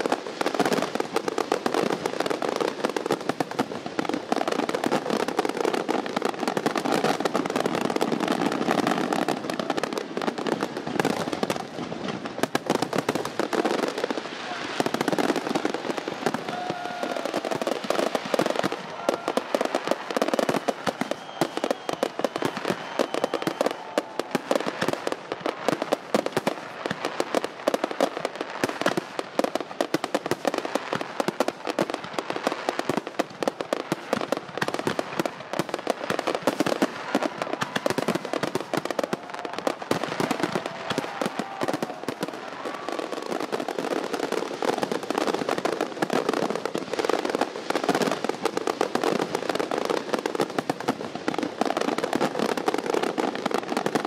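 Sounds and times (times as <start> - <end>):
fireworks crackling and banging: 0.0 - 54.0.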